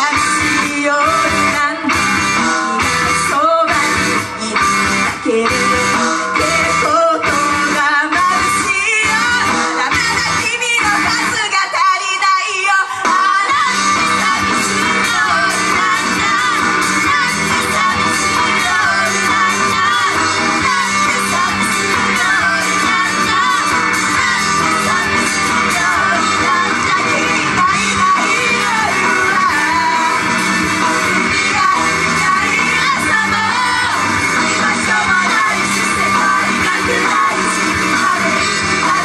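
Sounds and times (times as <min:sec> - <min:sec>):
pop-rock song with woman singing: 0:00.0 - 0:39.0.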